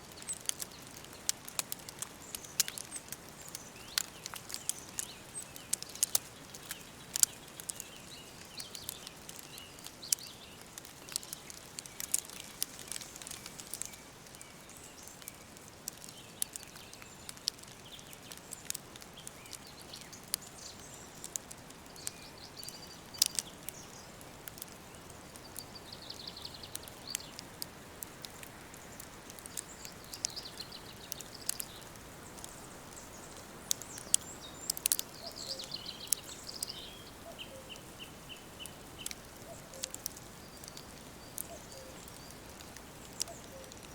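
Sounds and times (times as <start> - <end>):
sharp crackles and snaps: 0.0 - 43.9
woodland birds chirping: 0.1 - 43.9.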